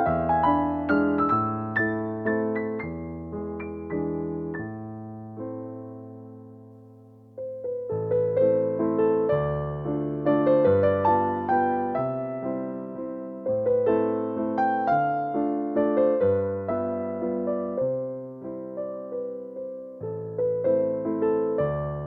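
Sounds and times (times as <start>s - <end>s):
electric piano melody: 0.0s - 22.0s.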